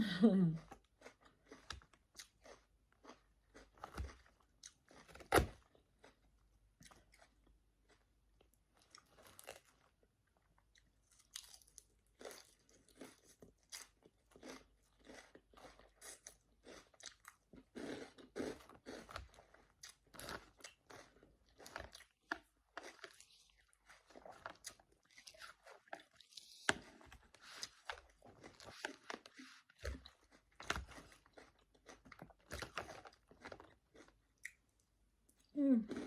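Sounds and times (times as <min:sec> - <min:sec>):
person chewing crunchy salad: 0:00.0 - 0:36.0.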